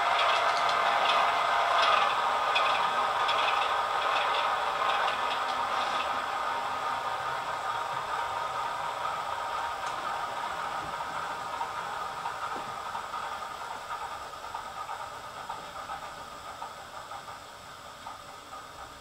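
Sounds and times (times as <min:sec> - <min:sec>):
model locomotive diesel engine: 0:00.0 - 0:19.0.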